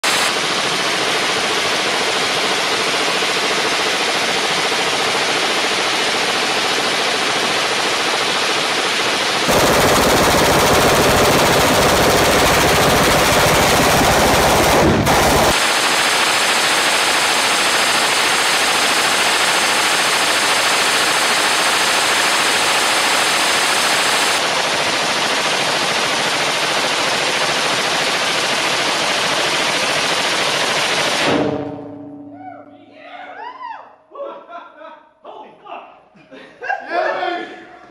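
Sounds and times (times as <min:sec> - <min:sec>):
machine gun automatic fire: 0:00.0 - 0:32.1.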